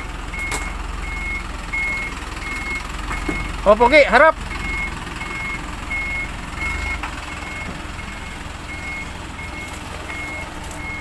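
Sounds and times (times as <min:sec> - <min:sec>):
truck engine running low: 0:00.0 - 0:11.0
truck reversing alarm beeping: 0:00.0 - 0:11.0.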